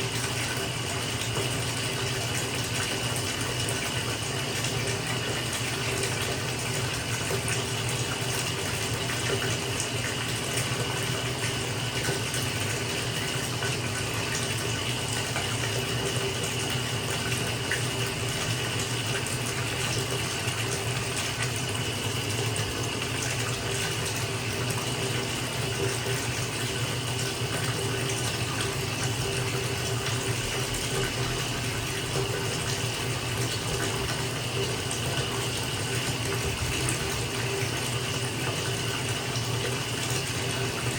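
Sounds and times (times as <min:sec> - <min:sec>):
water pouring into bathtub: 0:00.0 - 0:40.9.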